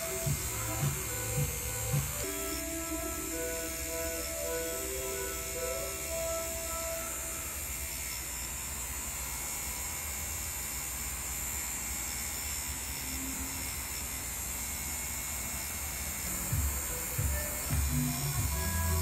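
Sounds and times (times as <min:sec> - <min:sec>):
tattoo machine buzzing: 0:00.0 - 0:19.0.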